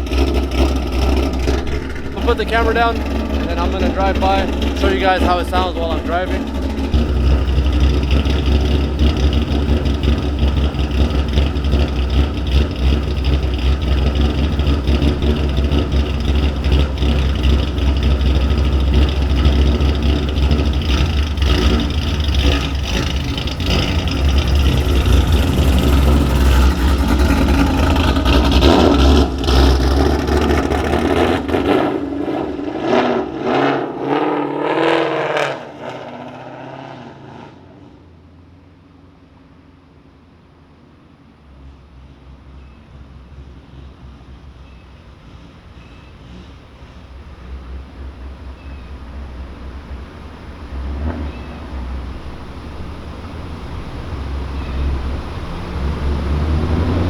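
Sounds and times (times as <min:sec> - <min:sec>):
car engine accelerating away: 0:00.0 - 0:39.2, 0:41.4 - 0:57.0.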